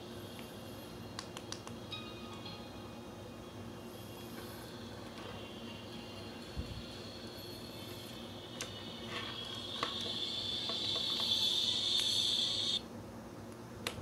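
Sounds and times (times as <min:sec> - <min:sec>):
high steady earphone hiss: 0:00.0 - 0:13.6.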